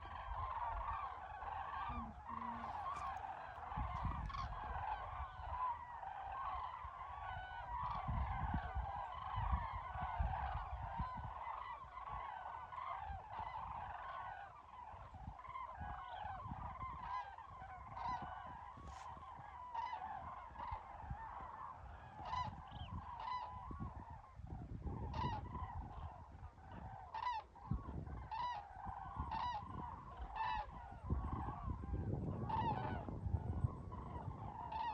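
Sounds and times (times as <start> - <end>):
cranes trumpeting calls: 0.0 - 34.9.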